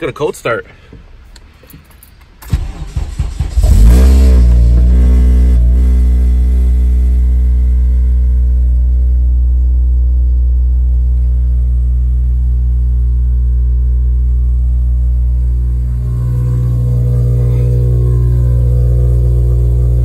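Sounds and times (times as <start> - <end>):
car engine idling: 0.7 - 20.0.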